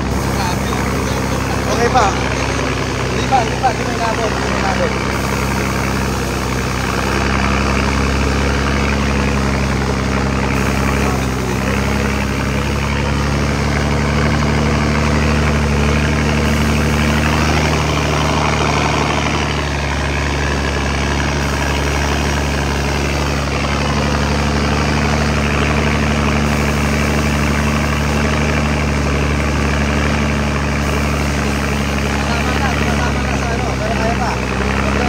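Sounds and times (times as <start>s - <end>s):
floodwater rushing: 0.0s - 35.0s
heavy vehicle engine humming: 0.0s - 35.0s.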